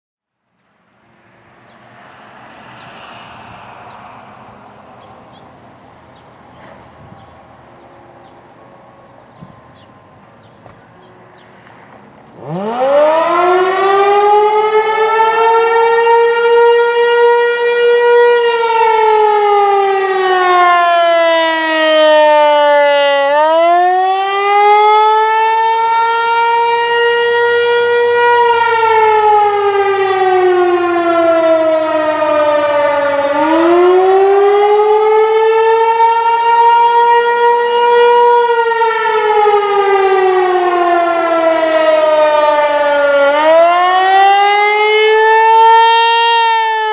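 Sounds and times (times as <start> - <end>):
rotating warning siren wailing: 0.6 - 11.6, 12.3 - 46.9.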